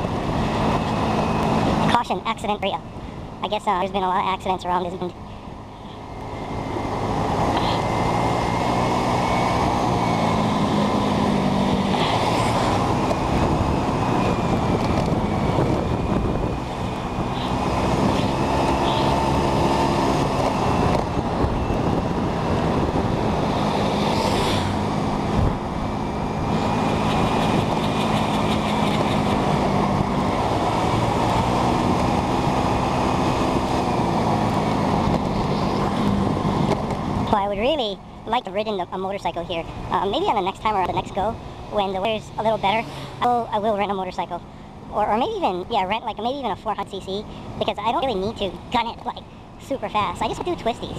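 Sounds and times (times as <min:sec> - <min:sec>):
moped engine running: 0:00.0 - 0:50.9
wind and road noise: 0:00.0 - 0:50.9.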